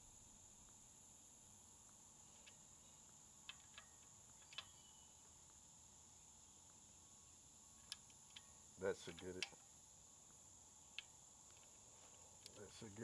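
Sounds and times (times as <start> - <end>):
faint high hiss: 0.0 - 13.0.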